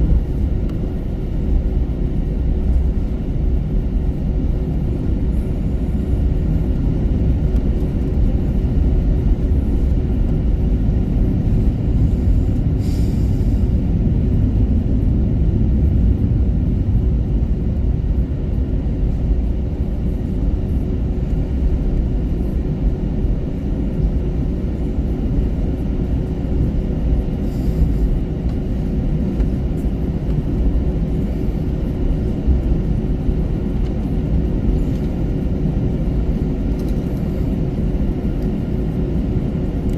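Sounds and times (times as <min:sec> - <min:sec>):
aircraft cabin rumble and hum: 0:00.0 - 0:39.9.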